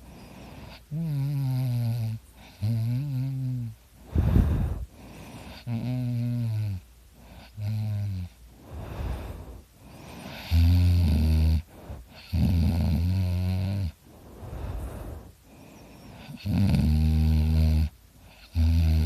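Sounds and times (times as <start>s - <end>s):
quiet breaths: 0.0s - 19.0s
person snoring heavily: 0.2s - 15.3s, 16.2s - 19.0s.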